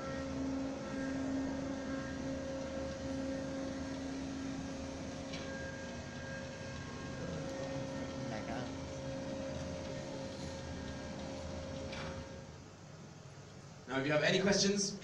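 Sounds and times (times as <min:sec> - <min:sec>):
motorized dome shutter humming: 0:00.0 - 0:12.9.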